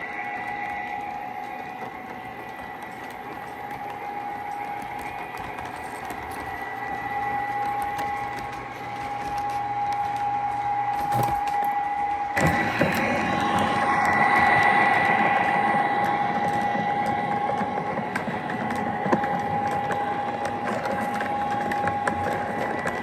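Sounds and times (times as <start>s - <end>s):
model locomotive whine: 0.0s - 23.0s
wheels rumbling on track: 0.0s - 23.0s.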